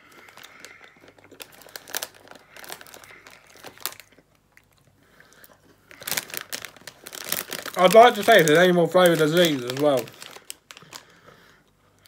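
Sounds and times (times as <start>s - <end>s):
plastic wrapper crinkling: 0.0s - 4.8s, 5.8s - 11.2s.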